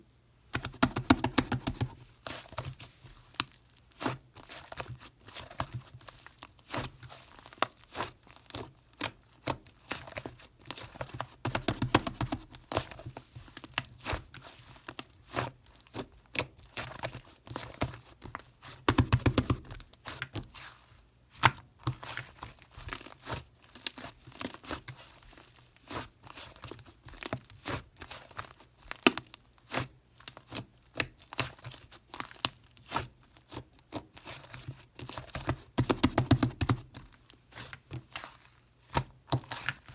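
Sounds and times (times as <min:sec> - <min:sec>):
hands squishing slime: 0:00.5 - 0:39.9.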